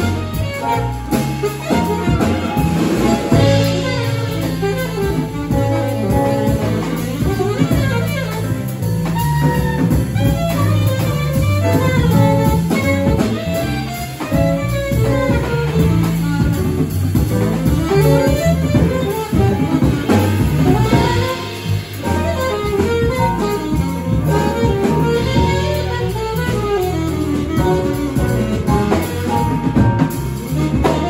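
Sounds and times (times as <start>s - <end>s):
drum kit: 0.0s - 31.0s
piano: 0.0s - 31.0s
plucked upright bass: 0.0s - 31.0s
saxophone melody: 0.0s - 31.0s.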